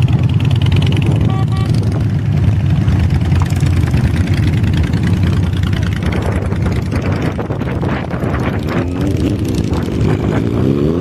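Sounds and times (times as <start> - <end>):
motorcycle engines idling: 0.0 - 10.4.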